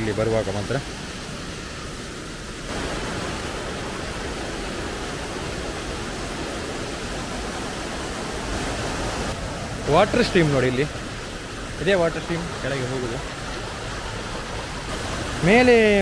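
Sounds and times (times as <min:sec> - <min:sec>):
water rushing from waterfall: 0:00.0 - 0:16.0.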